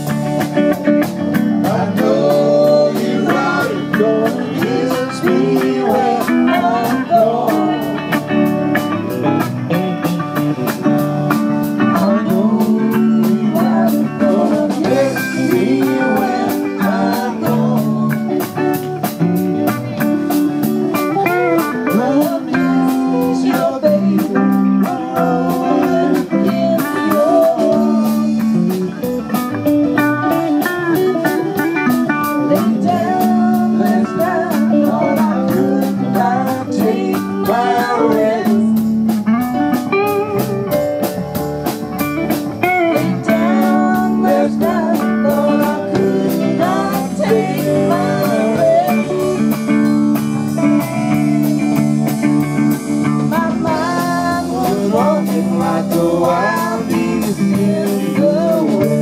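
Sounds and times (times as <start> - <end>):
bass guitar: 0.0 - 59.0
drum kit cymbal beat: 0.0 - 59.0
electric guitar bending notes: 0.0 - 59.0.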